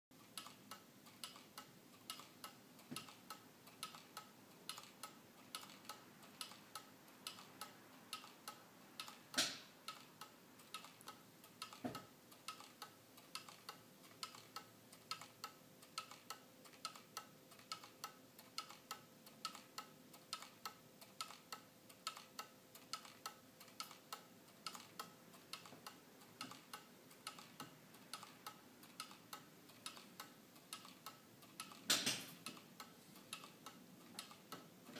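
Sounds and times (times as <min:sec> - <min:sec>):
clock ticking: 0:00.2 - 0:34.9.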